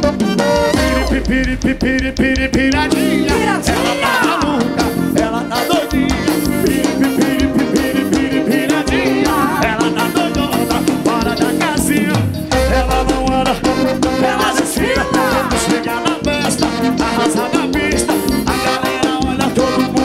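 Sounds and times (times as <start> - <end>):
horns playing melody: 0.0 - 2.0, 2.8 - 11.2, 12.5 - 20.0
accordion: 0.0 - 20.0
drum kit dance beat: 0.0 - 20.0.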